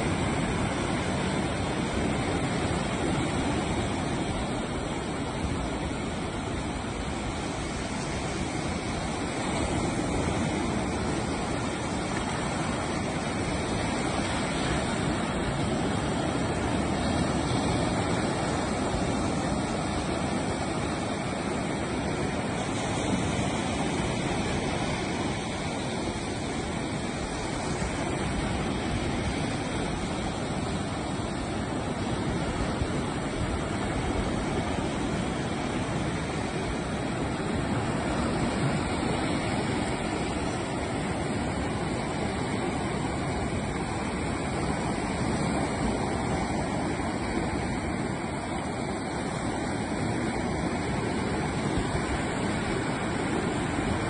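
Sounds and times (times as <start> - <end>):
ocean surf breaking on beach: 0.0 - 54.0.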